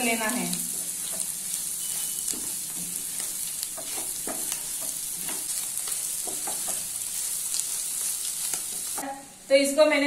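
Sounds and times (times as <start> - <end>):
meat sizzling in a frying pan: 0.0 - 9.5
wooden spatula scraping a pan: 0.6 - 9.0.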